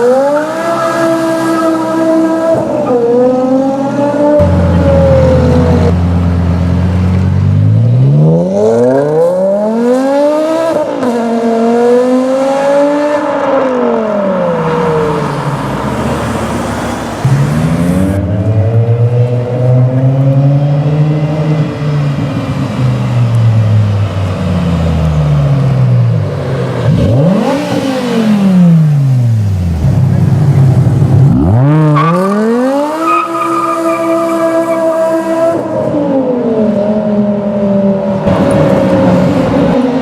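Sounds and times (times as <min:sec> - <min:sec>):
car engine revving hard: 0:00.0 - 0:21.8, 0:26.6 - 0:37.5.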